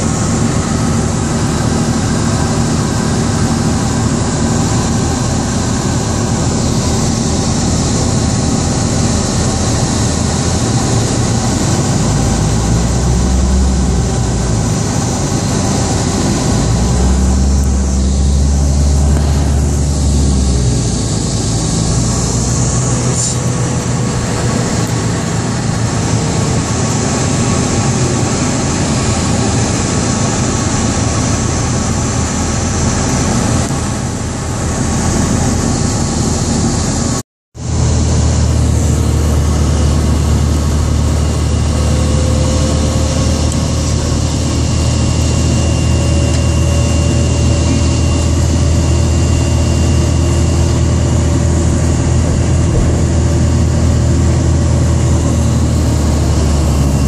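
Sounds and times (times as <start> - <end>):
heavy low rumbles: 0.0 - 57.0
train rumbling and rattling: 0.0 - 57.0.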